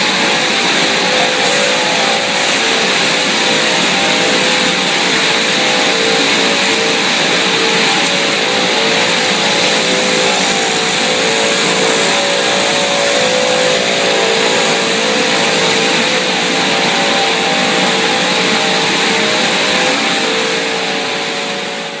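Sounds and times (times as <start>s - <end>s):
production line machinery whirring: 0.0s - 22.0s.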